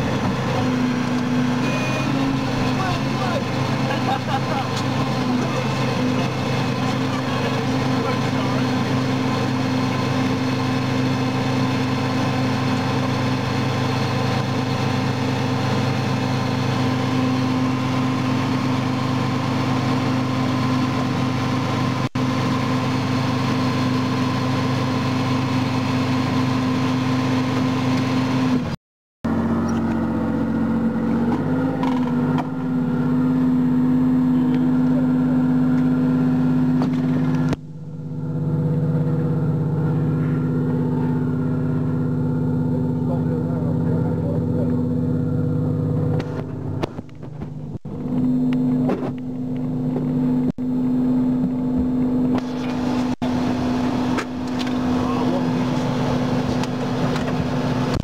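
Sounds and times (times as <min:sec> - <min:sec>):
armoured vehicle engine drone: 0:00.0 - 0:58.0.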